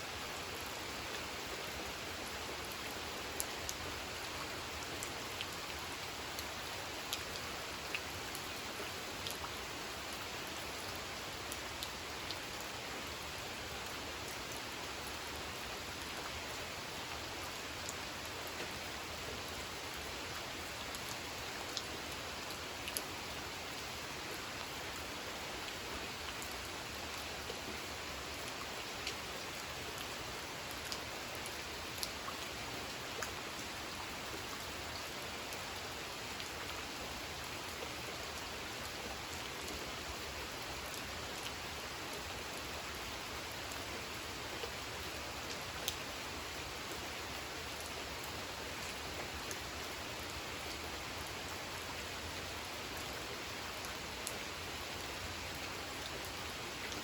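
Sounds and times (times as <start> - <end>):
rain falling on a pond: 0.0 - 57.0.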